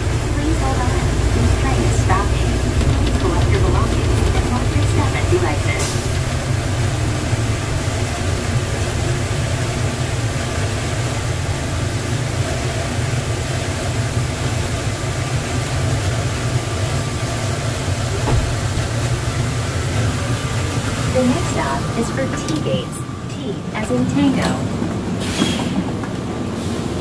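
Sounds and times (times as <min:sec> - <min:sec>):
train rumbling in tunnel: 0:00.0 - 0:27.0.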